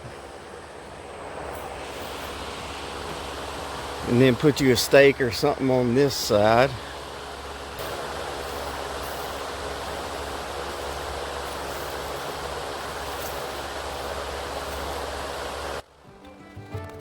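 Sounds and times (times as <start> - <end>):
low motor hum: 0.0 - 16.0
fan wind noise: 0.0 - 16.2.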